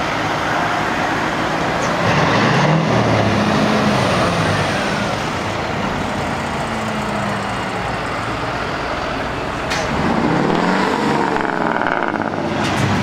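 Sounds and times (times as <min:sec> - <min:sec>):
diesel trucks driving past: 0:00.0 - 0:13.0.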